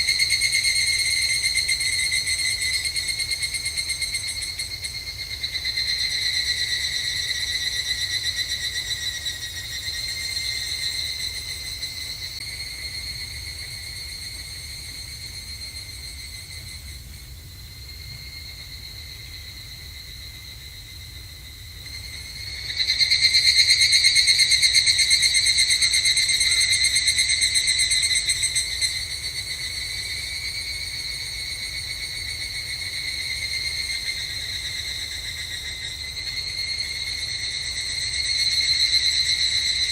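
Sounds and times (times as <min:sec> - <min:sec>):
cicadas trilling: 0:00.0 - 0:39.9.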